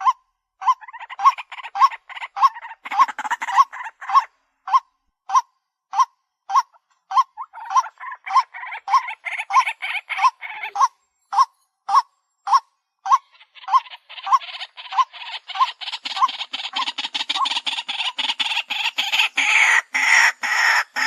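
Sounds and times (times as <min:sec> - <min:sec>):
waterhen calling kwak: 0:00.0 - 0:21.0
harsh rasping bird chatter: 0:00.6 - 0:04.8, 0:06.6 - 0:11.5, 0:12.5 - 0:21.0.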